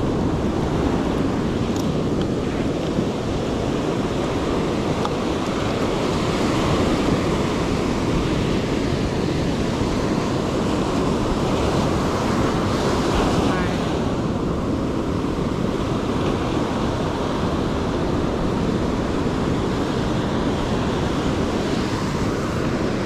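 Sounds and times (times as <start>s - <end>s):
ocean waves washing onto beach: 0.0s - 23.0s
wind noise on microphone: 0.0s - 23.0s.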